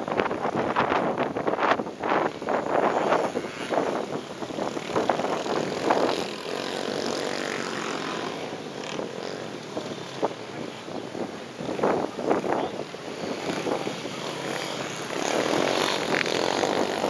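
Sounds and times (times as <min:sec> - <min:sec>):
distant dirt bike engines: 0:00.0 - 0:17.0.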